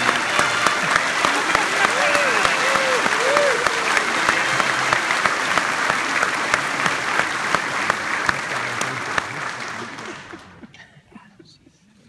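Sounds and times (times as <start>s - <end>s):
large audience applauding: 0.0s - 10.7s.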